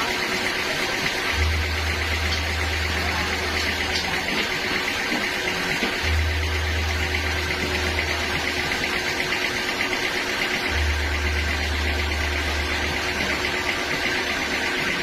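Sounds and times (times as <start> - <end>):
sawmill machinery running: 0.0 - 15.0
low hum: 1.3 - 15.0.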